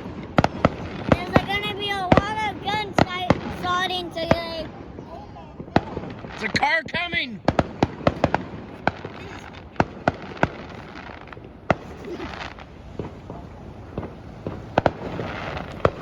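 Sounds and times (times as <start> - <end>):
firecrackers banging: 0.0 - 16.0.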